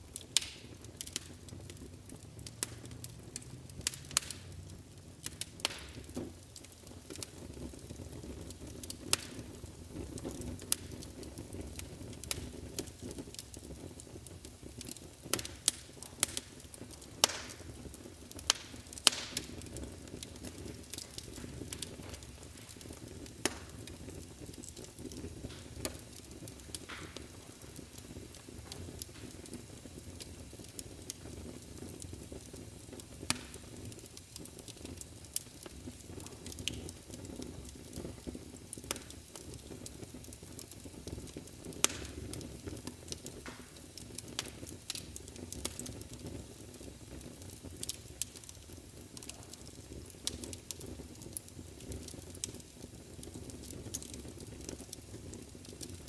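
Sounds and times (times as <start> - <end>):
fire crackling and popping: 0.0 - 56.0
low rush of flames: 0.0 - 56.0.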